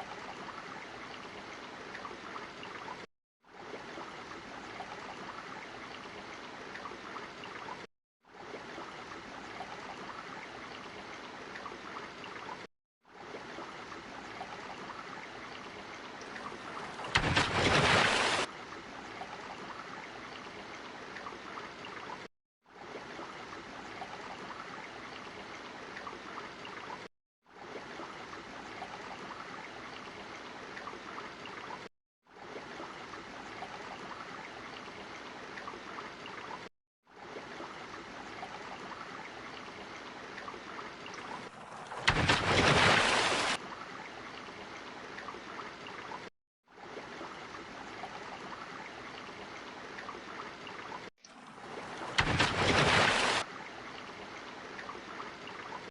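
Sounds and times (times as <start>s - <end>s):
water trickling: 0.0s - 55.9s.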